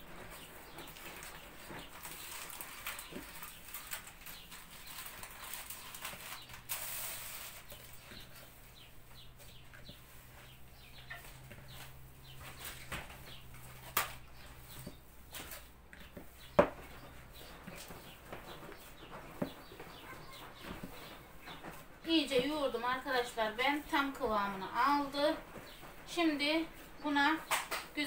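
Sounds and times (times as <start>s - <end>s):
hands kneading dough: 0.0s - 28.0s.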